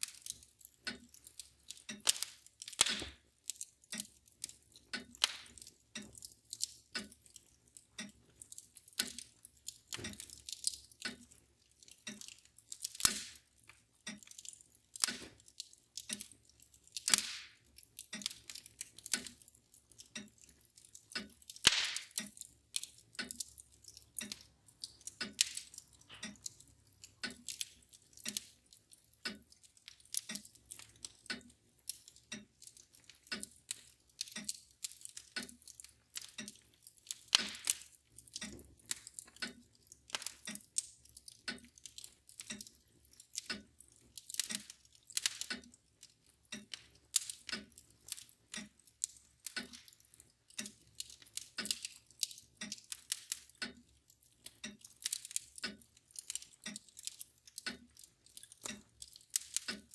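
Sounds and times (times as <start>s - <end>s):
fire crackling and popping: 0.0s - 59.9s
mantel clock ticking: 0.0s - 59.9s.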